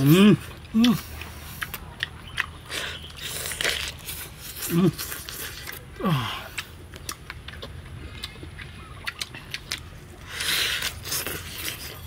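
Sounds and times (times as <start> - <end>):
wet mouth clicks while chewing: 0.4 - 12.0.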